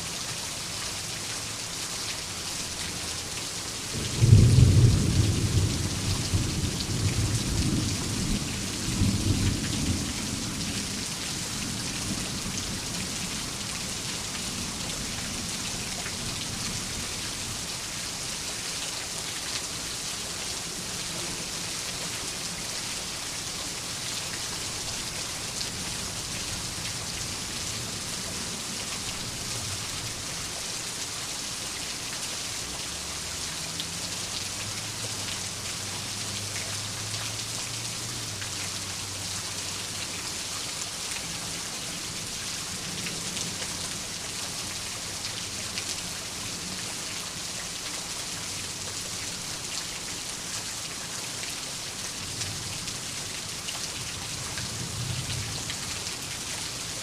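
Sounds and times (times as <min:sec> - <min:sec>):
dense rain falling: 0:00.0 - 0:57.0.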